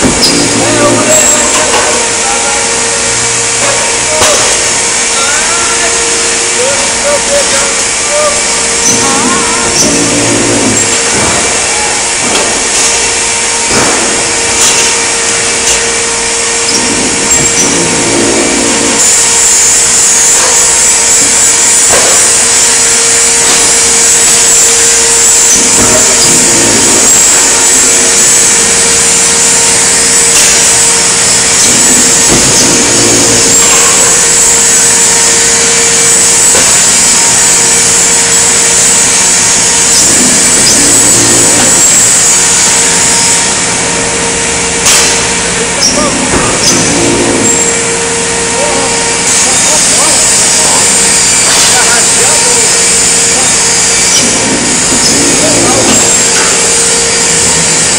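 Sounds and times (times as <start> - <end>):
machinery motor hum: 0.0 - 57.9.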